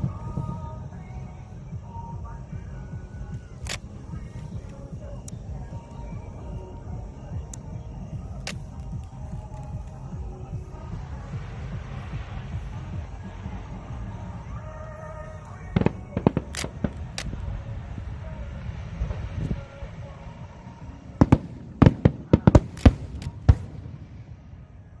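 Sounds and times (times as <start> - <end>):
fireworks bangs: 0.0 - 25.0
low background rumble: 0.0 - 25.0.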